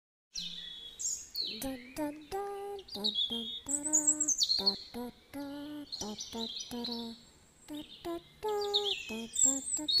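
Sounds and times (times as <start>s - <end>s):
bird chirping: 0.4s - 10.0s.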